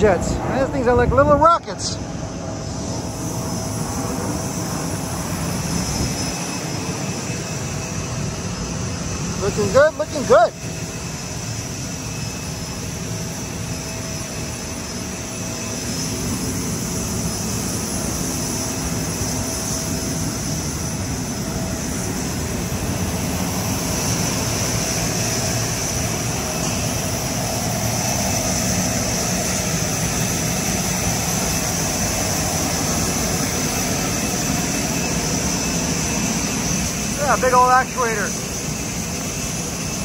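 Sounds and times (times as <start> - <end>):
jet engine whine: 0.0 - 40.0.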